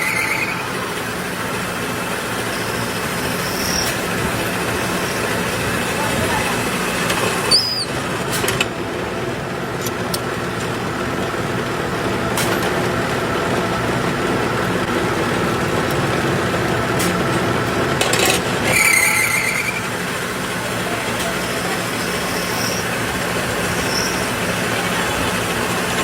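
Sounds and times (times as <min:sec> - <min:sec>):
high-pitched machine whine: 0:00.0 - 0:26.0
workshop machinery humming: 0:00.0 - 0:26.0.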